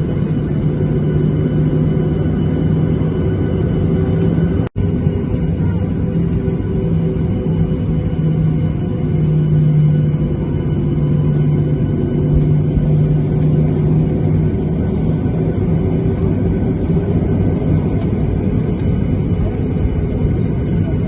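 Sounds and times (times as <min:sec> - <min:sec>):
aircraft engines rumbling in cabin: 0:00.0 - 0:21.0.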